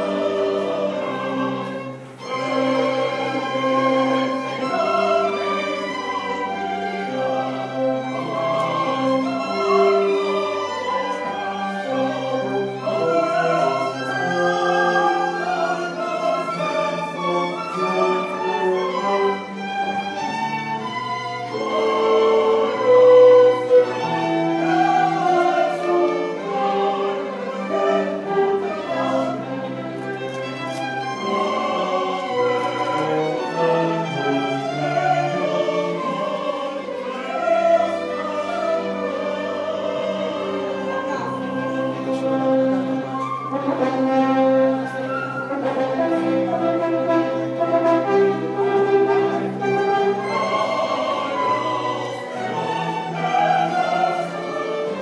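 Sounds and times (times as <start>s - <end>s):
bowed strings: 0.0s - 55.0s.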